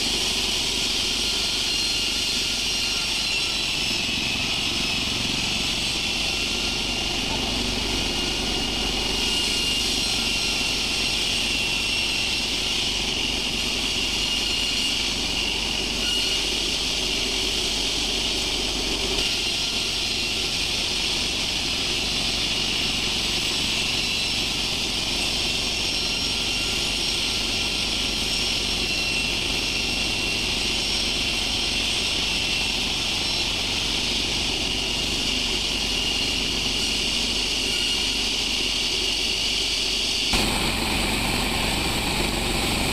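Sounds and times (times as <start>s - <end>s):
sawmill machinery whining: 0.0s - 42.9s.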